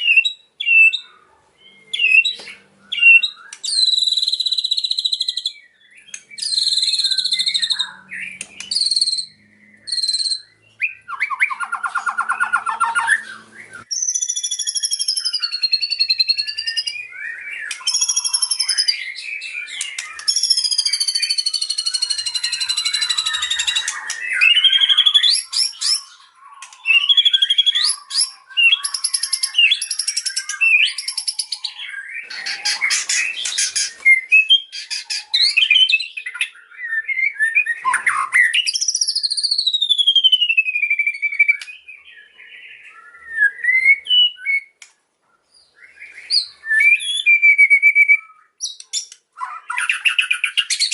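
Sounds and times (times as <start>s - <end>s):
songbird singing varied song: 0.0s - 50.9s.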